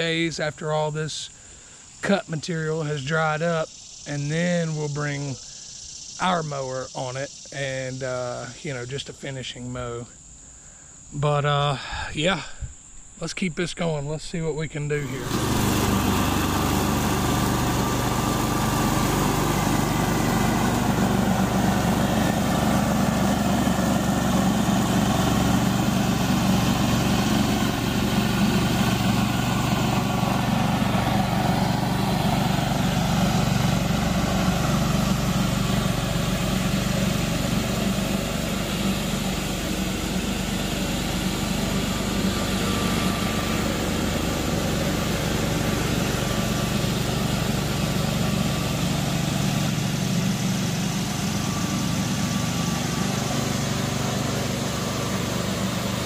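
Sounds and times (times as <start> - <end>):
mower engine cutting grass: 0.0 - 10.0, 13.8 - 56.0.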